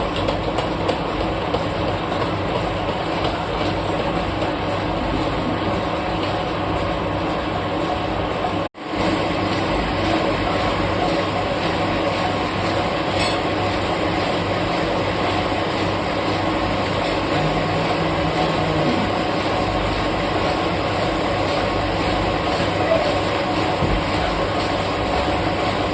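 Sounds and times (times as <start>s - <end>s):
metal lathe running: 0.0s - 25.9s.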